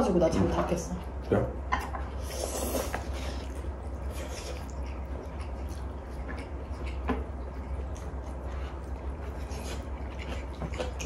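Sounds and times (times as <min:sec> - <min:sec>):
steady low hum: 0:00.0 - 0:11.0
chewing and slurping noodles: 0:02.0 - 0:11.0.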